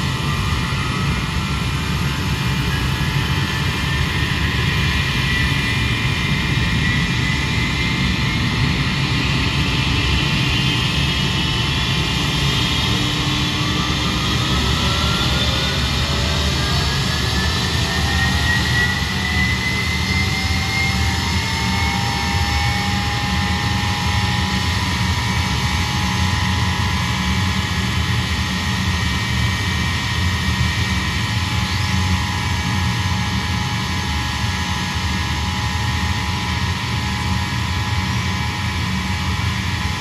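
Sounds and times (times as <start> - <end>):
jet engines rumbling and whining: 0.0 - 40.0.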